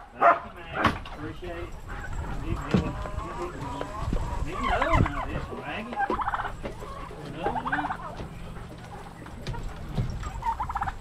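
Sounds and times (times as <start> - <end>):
turkey gobbling: 0.0 - 11.0.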